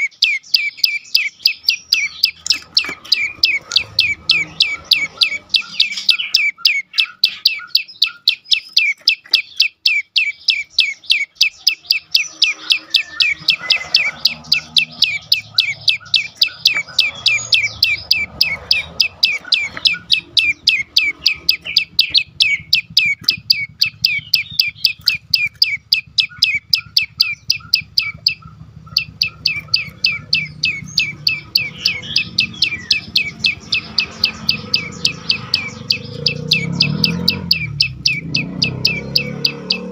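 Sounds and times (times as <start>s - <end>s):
bird chip notes: 0.0s - 39.9s.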